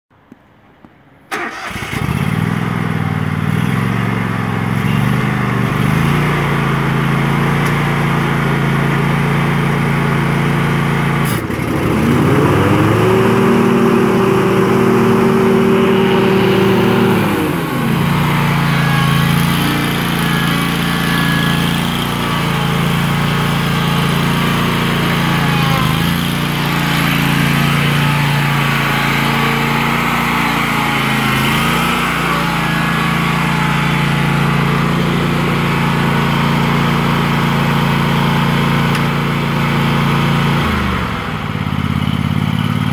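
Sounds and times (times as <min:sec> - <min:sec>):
lawn mower engine running: 0:01.3 - 0:42.9.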